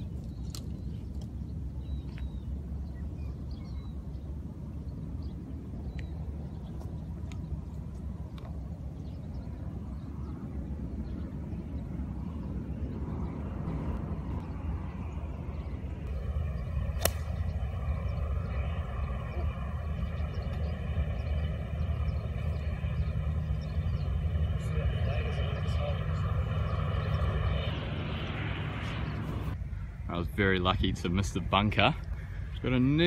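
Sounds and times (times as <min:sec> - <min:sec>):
distant engine hum: 0:00.0 - 0:33.0
wind rumbling on microphone: 0:00.0 - 0:33.0.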